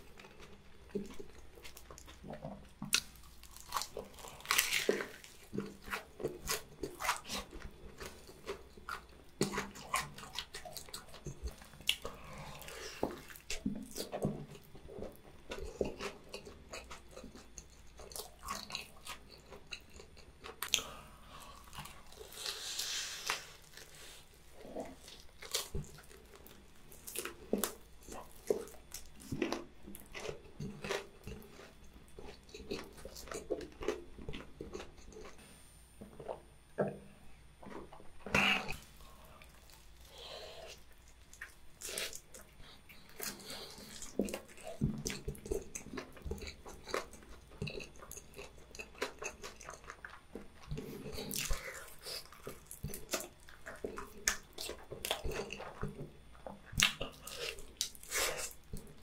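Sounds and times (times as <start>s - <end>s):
crunching fried chicken: 0.0s - 35.4s, 37.6s - 59.0s
wet chewing: 0.0s - 35.4s, 37.6s - 59.0s.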